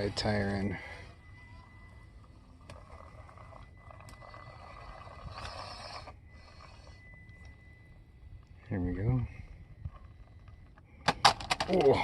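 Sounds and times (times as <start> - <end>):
toy truck motor and gears whirring: 0.0 - 11.0
faint high whine: 0.0 - 11.2.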